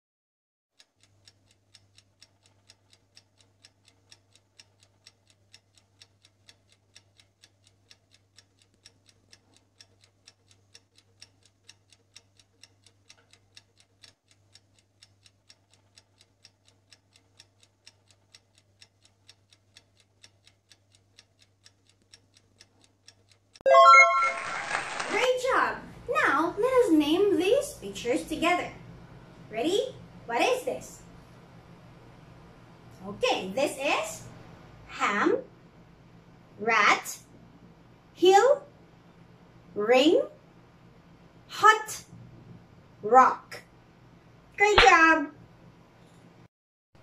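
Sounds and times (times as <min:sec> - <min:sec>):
faint clock ticking: 0:00.7 - 0:24.0, 0:25.2 - 0:47.0.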